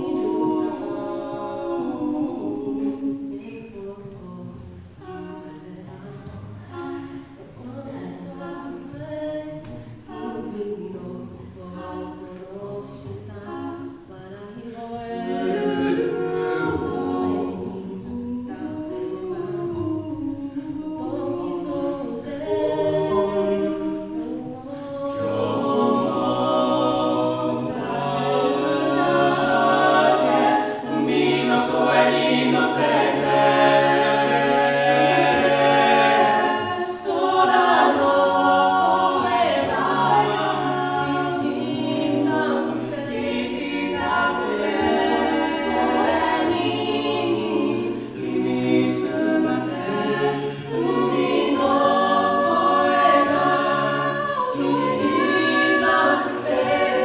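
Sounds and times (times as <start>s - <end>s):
a cappella group singing: 0.0s - 57.0s.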